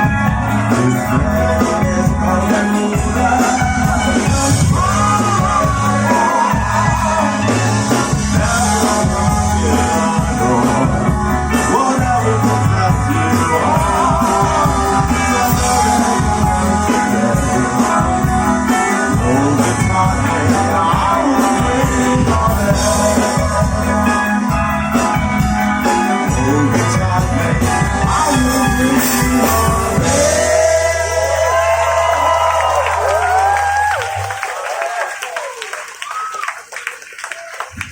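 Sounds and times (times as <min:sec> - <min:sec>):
person singing: 0:00.0 - 0:34.0
rock band playing: 0:00.0 - 0:34.8.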